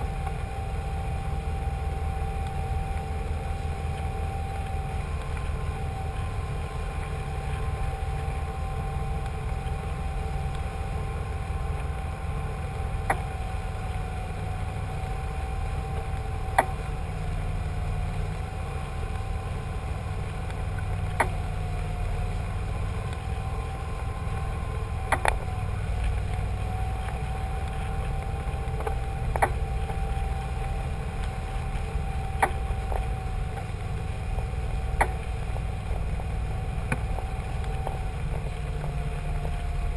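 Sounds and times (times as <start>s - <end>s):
boat engine rumbling: 0.0s - 39.9s
engine whine: 0.0s - 39.9s.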